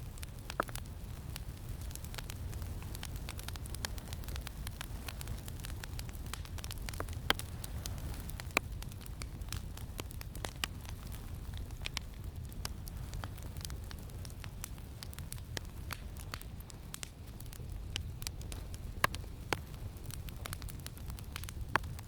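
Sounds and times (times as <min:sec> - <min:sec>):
campfire crackling: 0:00.0 - 0:22.0
fire pops: 0:00.0 - 0:22.0
low rumble of wind: 0:00.0 - 0:22.0.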